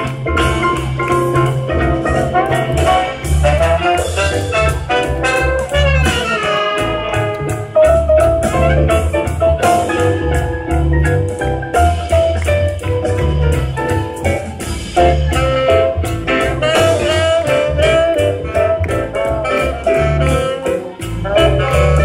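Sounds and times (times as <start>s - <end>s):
swing jazz band playing: 0.0s - 22.0s.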